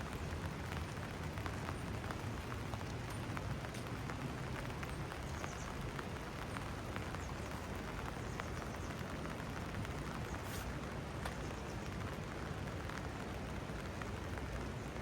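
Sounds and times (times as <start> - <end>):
raindrops ticking close by: 0.0 - 15.0
steady rainfall: 0.0 - 15.0.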